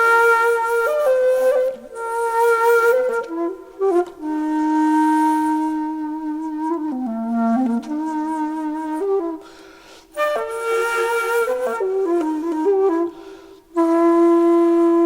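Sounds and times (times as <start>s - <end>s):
slow solo flute melody: 0.0s - 15.0s.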